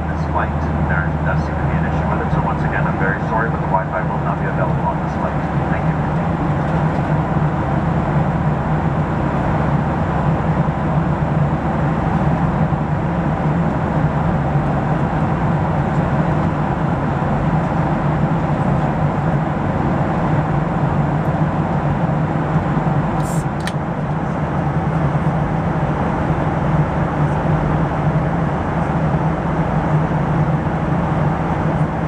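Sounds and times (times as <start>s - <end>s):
airplane cabin engine hum: 0.0s - 32.0s.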